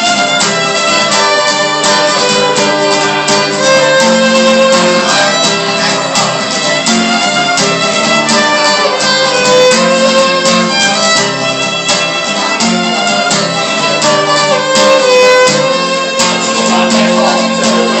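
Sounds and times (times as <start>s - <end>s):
fiddle melody: 0.0s - 18.0s
strummed acoustic guitar: 0.0s - 18.0s.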